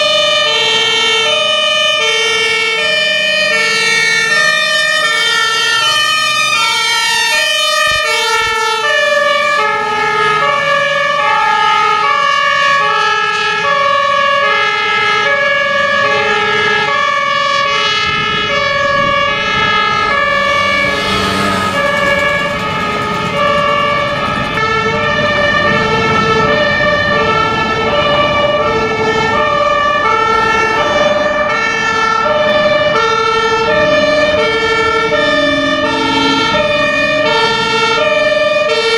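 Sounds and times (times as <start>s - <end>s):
fire engine two-tone sirens: 0.0s - 38.9s
truck diesel engine passing: 0.0s - 38.9s.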